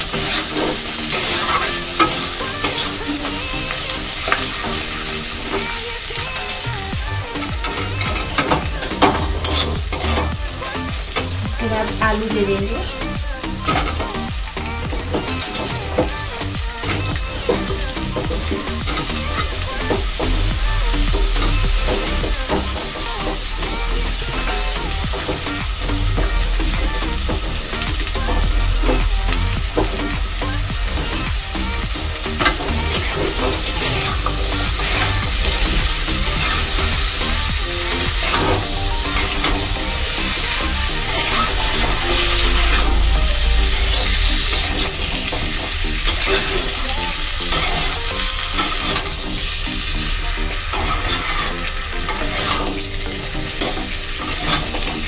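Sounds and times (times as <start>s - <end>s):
food sizzling in oil: 0.0s - 55.0s
spatula scraping pan: 0.0s - 55.0s.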